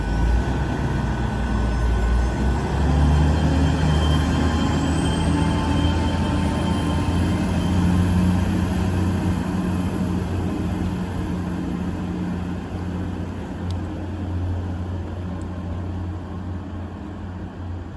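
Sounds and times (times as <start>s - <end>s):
diesel train engines droning: 0.0s - 17.9s.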